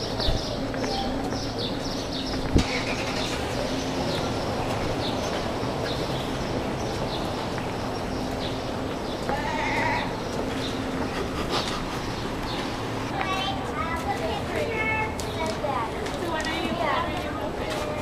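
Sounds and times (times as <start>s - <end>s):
low street hum: 0.0s - 18.0s.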